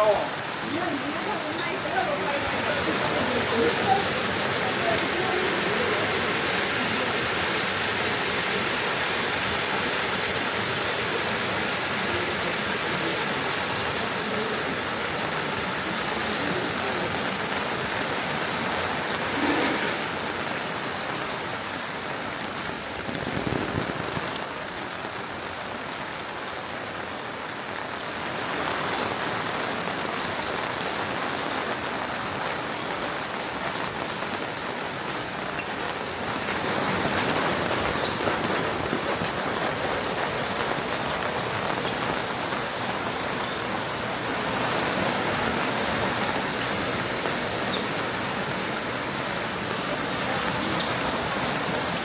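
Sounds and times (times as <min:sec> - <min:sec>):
rain pattering: 0:00.0 - 0:52.0.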